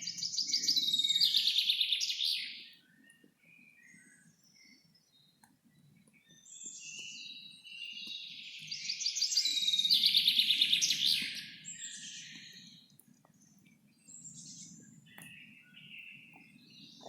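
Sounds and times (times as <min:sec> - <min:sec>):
songbird singing a rapid trill: 0:00.0 - 0:17.0.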